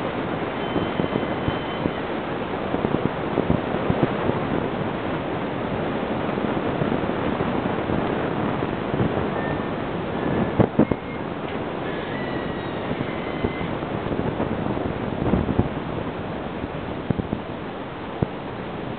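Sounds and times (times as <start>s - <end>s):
surf washing on beach: 0.0s - 18.9s
wind on microphone: 0.0s - 18.9s.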